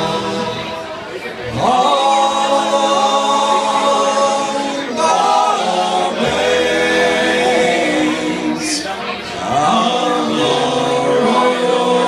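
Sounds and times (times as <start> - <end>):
men singing in harmony: 0.0 - 12.0.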